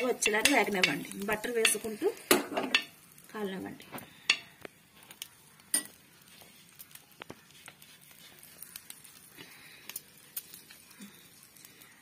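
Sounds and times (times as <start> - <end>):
bread crackling in butter: 0.0 - 12.0.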